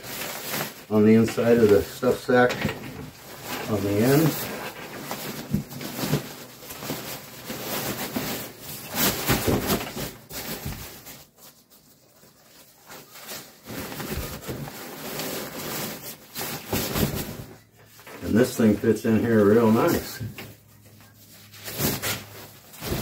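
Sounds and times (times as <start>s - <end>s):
fabric rustling and scraping: 3.1s - 23.0s.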